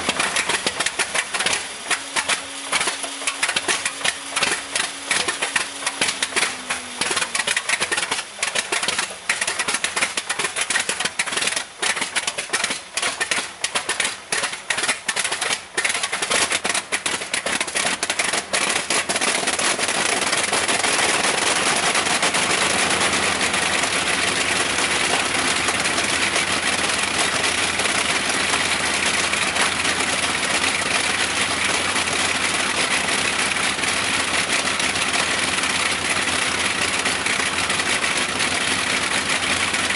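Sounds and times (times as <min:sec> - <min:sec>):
old engine starting and running: 0:00.0 - 0:39.9.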